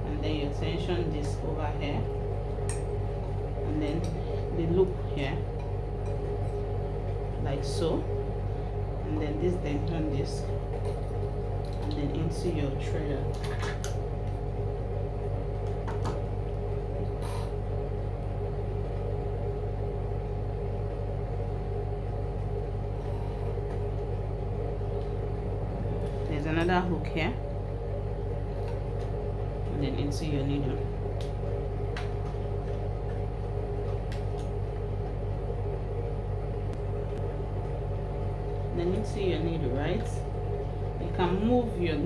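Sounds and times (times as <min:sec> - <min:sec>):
low electric hum: 0:00.0 - 0:42.0.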